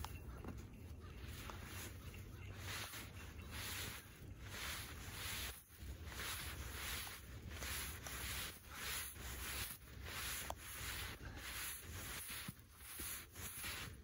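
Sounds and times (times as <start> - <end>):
soft swishing of snow: 0.0 - 14.0.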